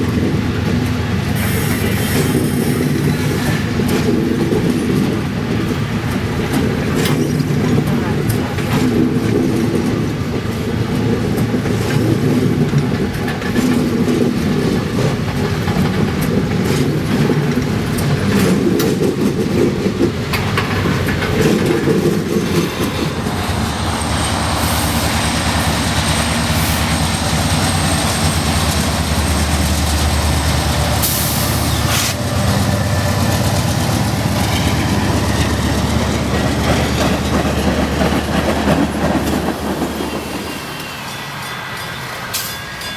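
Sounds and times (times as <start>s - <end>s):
diesel locomotives running past: 0.0s - 42.9s.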